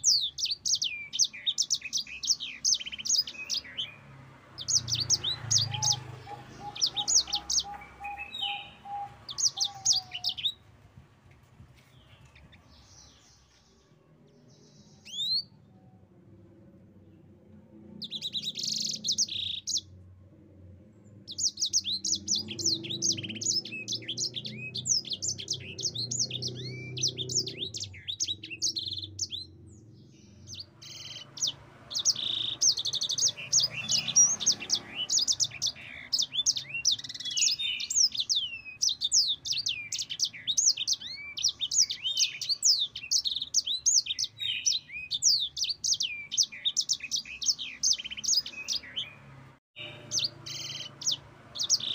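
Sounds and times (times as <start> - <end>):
canary singing trills: 0.0 - 10.7, 12.0 - 15.8, 17.7 - 20.0, 21.1 - 51.9.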